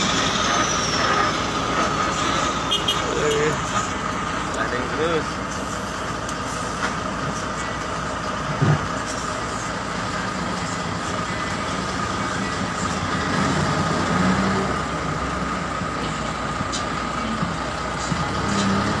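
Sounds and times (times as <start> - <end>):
constant whine: 0.0 - 19.0
truck diesel engine running: 0.0 - 19.0.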